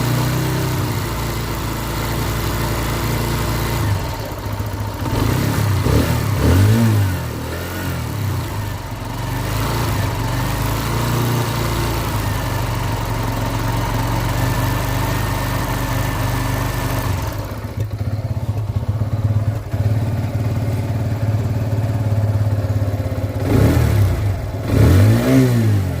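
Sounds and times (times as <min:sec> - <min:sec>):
engine running low hum: 0:00.0 - 0:26.0.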